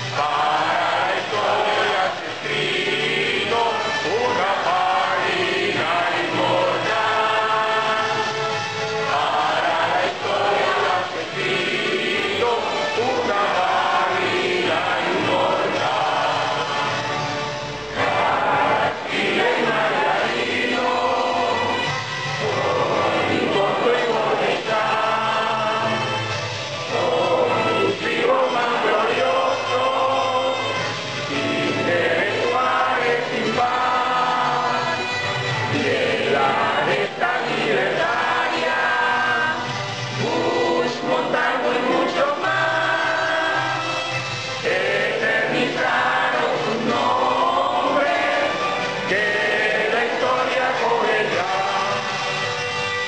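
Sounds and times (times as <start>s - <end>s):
crowd singing together: 0.0s - 53.0s.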